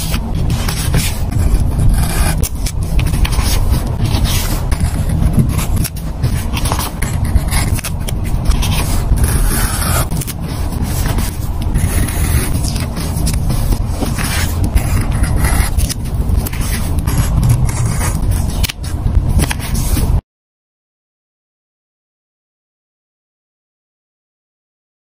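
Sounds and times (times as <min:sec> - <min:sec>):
knife scraping paper: 0:00.0 - 0:20.1
low rumble: 0:00.0 - 0:20.2.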